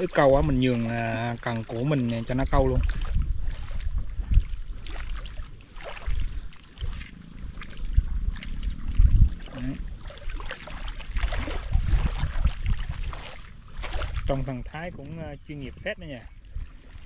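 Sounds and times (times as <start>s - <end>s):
waves lapping: 0.0s - 17.0s
wind buffeting microphone: 0.0s - 17.0s.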